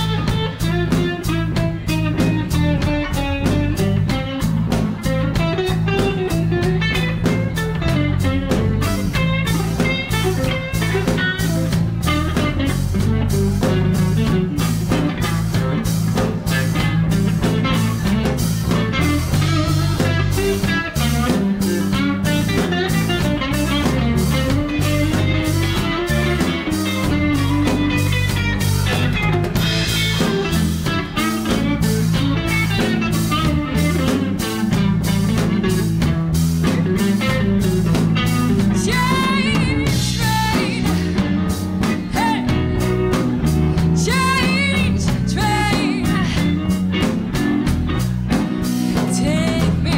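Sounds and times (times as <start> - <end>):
bass guitar: 0.0 - 49.9
drum kit: 0.0 - 49.9
electric guitar: 0.0 - 49.9.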